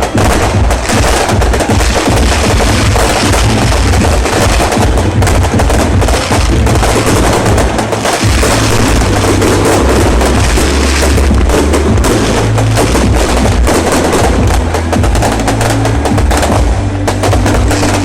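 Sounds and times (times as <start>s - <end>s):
deep rumble: 0.0s - 18.0s
fireworks bangs and crackling: 0.0s - 18.0s.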